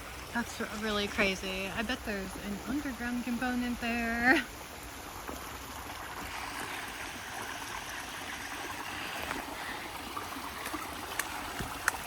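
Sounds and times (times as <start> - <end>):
water splashing over waterfall: 0.0 - 12.0.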